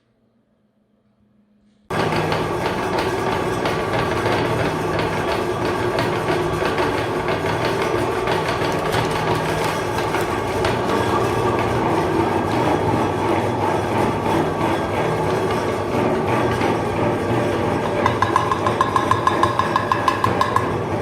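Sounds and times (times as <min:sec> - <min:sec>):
electric meat grinder running: 0:01.9 - 0:21.0.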